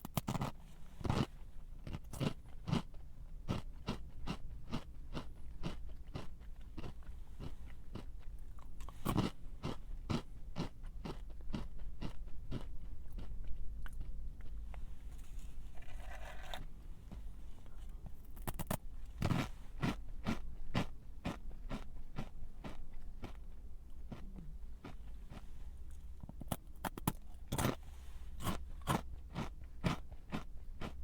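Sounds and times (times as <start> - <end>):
person chewing crunchy snack: 0.0 - 31.0.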